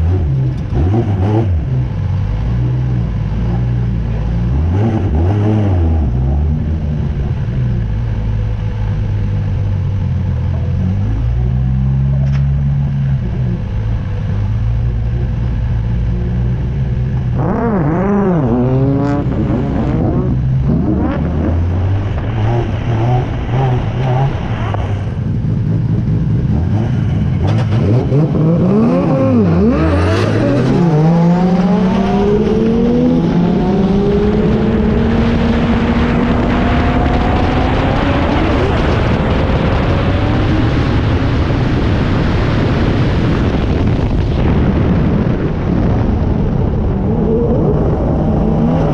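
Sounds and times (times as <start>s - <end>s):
car engine revving: 0.0s - 48.9s
road and wind noise: 0.0s - 48.9s.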